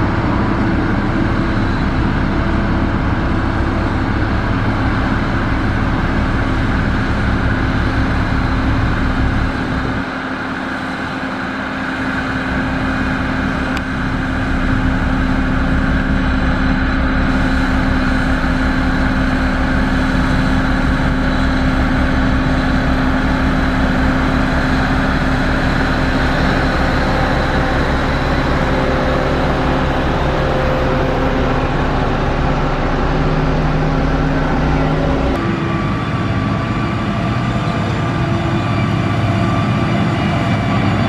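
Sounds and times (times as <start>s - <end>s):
diesel engine running under load: 0.0s - 41.0s.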